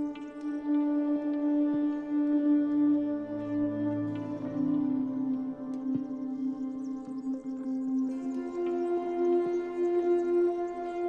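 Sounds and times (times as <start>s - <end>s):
slow ambient drone music: 0.0s - 11.0s.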